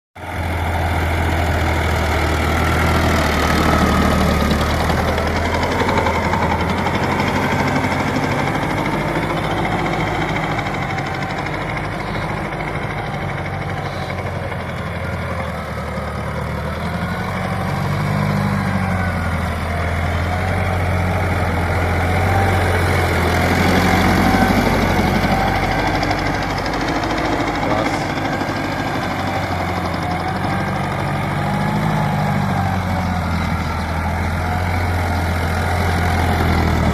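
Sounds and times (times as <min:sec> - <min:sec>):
tractor diesel engine humming: 0:00.2 - 0:36.9.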